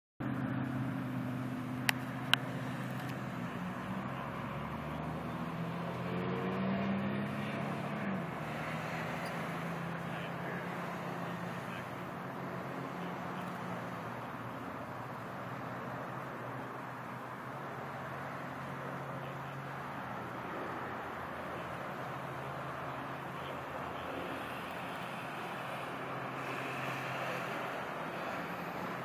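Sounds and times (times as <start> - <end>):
engine note rising: 0.2 - 29.0
road traffic: 0.2 - 29.0.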